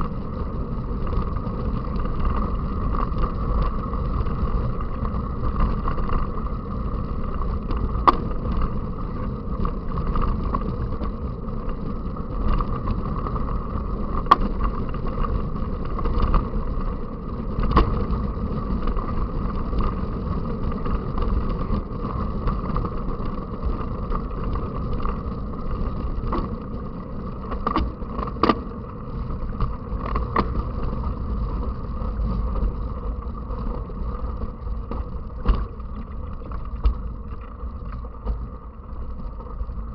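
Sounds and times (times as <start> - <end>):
bike rattling over ground: 0.0 - 39.9
mountain bike rushing and rumbling: 0.0 - 39.9.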